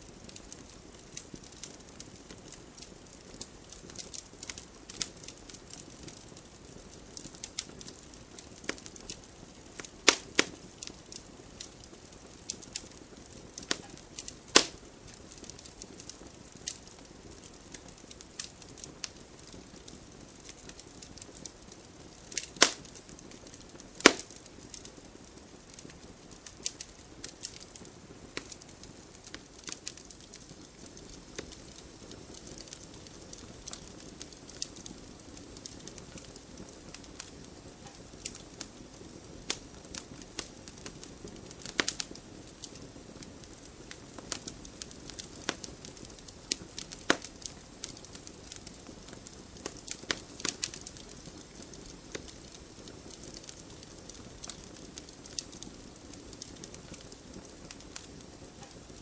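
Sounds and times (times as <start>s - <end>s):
burning logs crackling: 0.0s - 59.0s.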